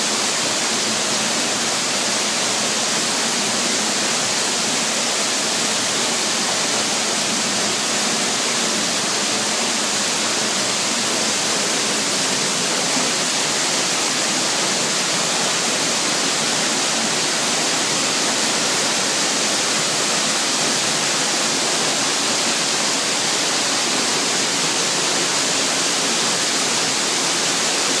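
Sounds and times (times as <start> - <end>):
small waterfall rushing: 0.0 - 28.0.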